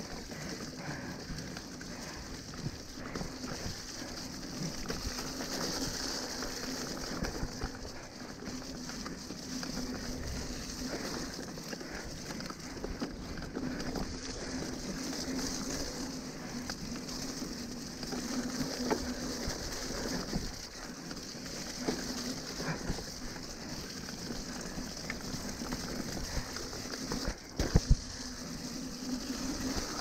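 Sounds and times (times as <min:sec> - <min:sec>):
bike knocking and rattling: 0:00.0 - 0:30.0
bike tyres rushing through mud: 0:00.0 - 0:30.0.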